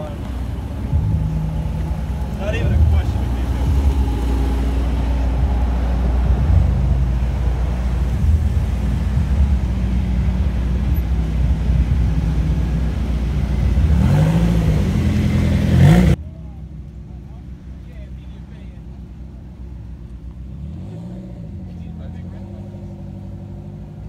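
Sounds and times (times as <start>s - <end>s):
car engine rumbling and revving: 0.0s - 24.0s.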